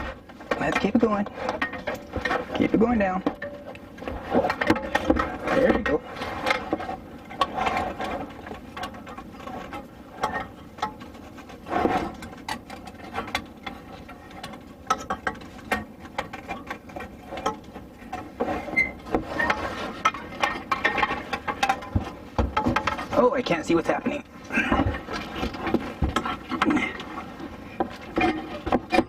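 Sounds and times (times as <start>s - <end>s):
clicks knocks and scrapes of handling: 0.0s - 23.3s, 24.5s - 29.0s.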